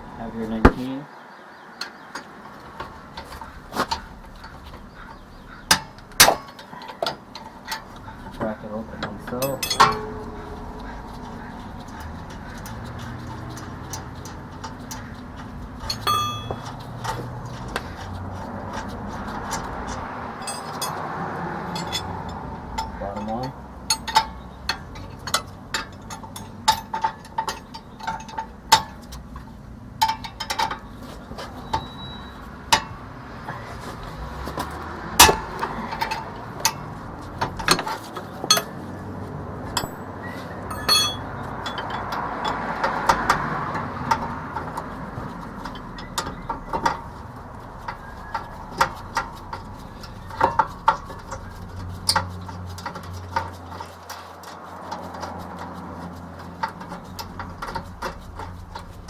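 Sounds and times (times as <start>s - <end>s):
metal rubbing and scraping: 2.2s - 59.0s.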